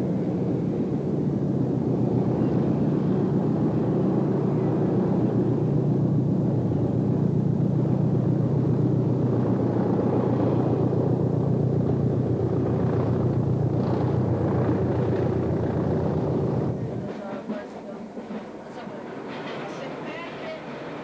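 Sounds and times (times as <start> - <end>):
diesel train engine rumble: 0.0 - 21.0.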